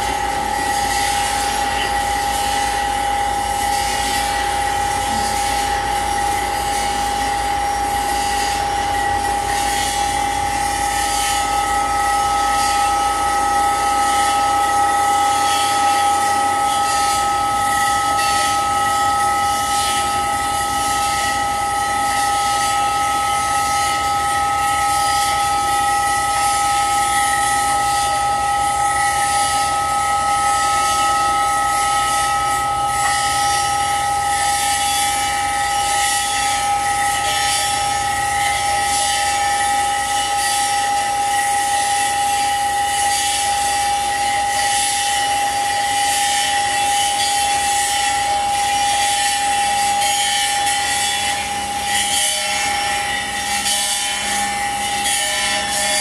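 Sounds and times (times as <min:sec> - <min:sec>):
held high tones: 0:00.0 - 0:47.2.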